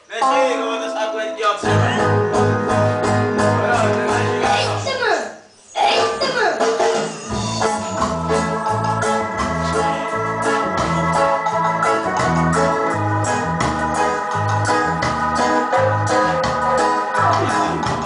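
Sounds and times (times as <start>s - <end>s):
electronic dance music: 0.0s - 5.1s, 5.8s - 18.0s.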